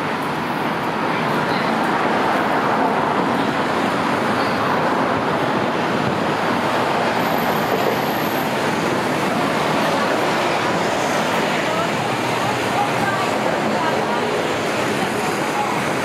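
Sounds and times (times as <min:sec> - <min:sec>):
busy city street traffic: 0:00.0 - 0:16.0.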